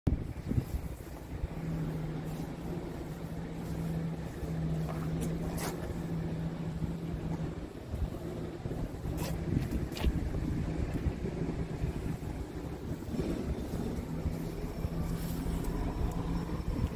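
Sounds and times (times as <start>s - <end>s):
diesel truck engine idling: 0.2s - 16.9s.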